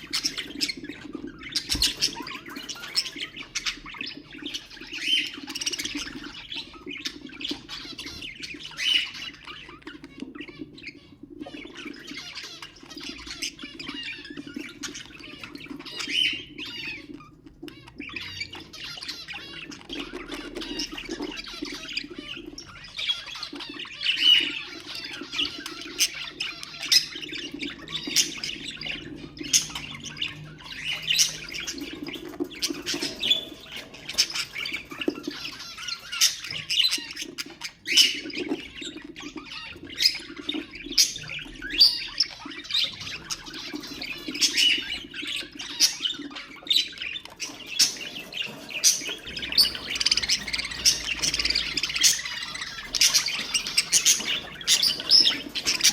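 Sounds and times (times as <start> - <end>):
budgerigars chattering and warbling: 0.0 - 55.9.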